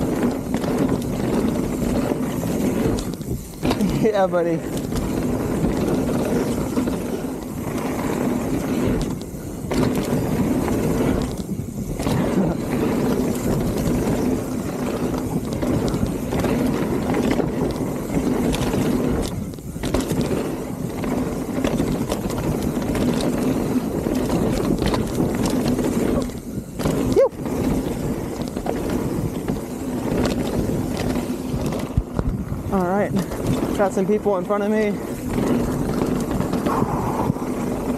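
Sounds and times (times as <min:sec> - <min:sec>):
bike drivetrain and frame rattle: 0:00.0 - 0:37.9
bike tyres rushing on dirt: 0:00.0 - 0:37.9.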